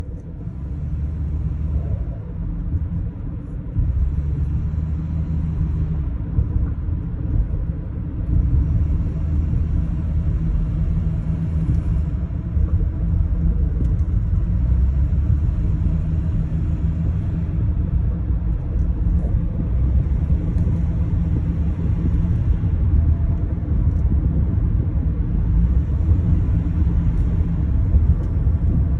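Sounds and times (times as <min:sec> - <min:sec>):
car engine rumbling: 0:00.0 - 0:28.9.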